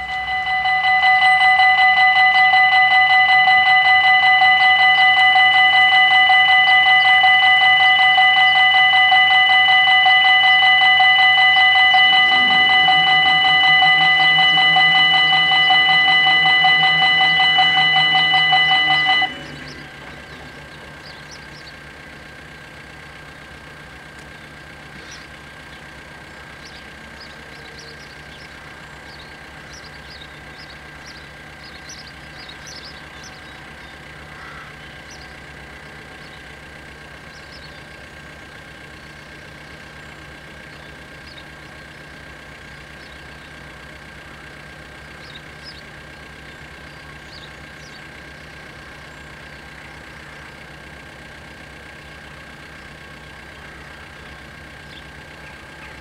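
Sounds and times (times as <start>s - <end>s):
level crossing warning bells: 0.0s - 56.0s.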